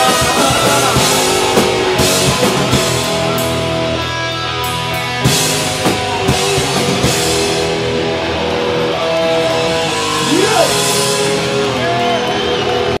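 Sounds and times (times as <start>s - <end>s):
punk band playing live: 0.0s - 13.0s
ringing guitar chords: 0.0s - 13.0s.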